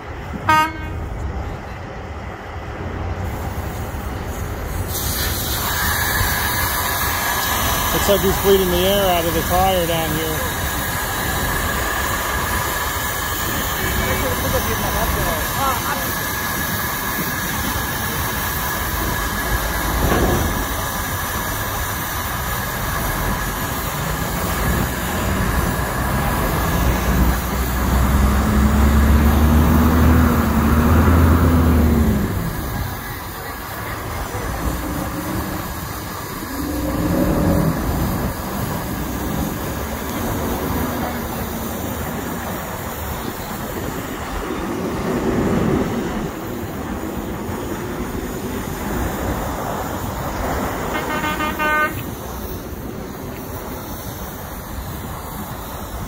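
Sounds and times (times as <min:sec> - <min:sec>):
heavy engine humming: 0:00.0 - 0:56.0
traffic: 0:00.0 - 0:56.0.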